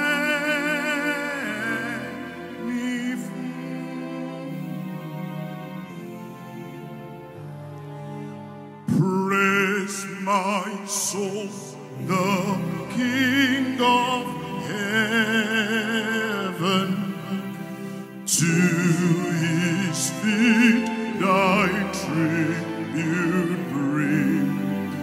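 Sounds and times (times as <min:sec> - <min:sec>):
man singing into a microphone: 0:00.0 - 0:04.2, 0:08.9 - 0:25.0
sustained instrumental backing: 0:00.0 - 0:25.0.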